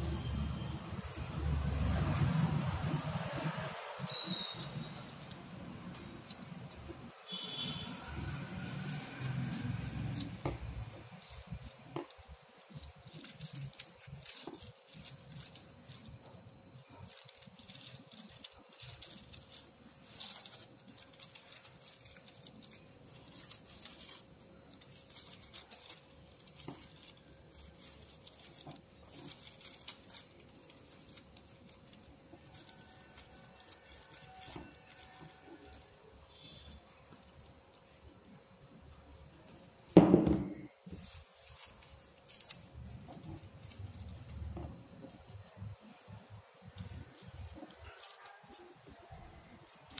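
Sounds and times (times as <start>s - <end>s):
paper rustling and crinkling: 0.1s - 49.9s.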